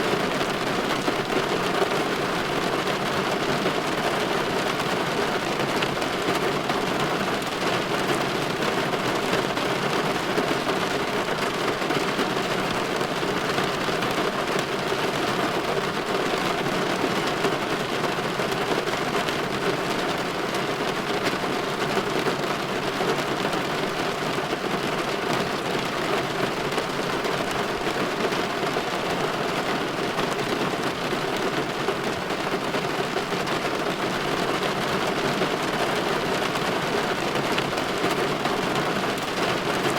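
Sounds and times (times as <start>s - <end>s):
rain on window pane: 0.0s - 39.9s.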